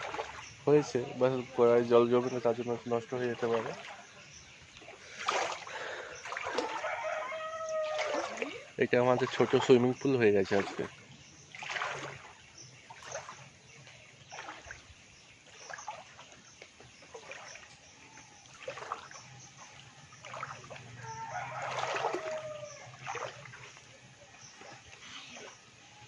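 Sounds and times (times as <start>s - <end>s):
footsteps wading through water: 0.0s - 26.0s.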